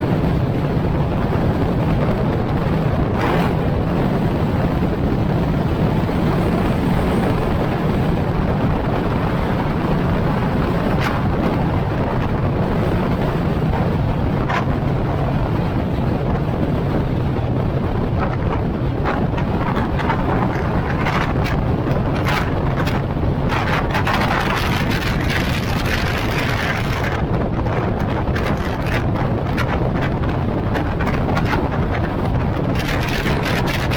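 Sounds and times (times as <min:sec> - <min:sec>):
low rumble: 0:00.0 - 0:33.9
wind buffeting microphone: 0:00.0 - 0:33.9.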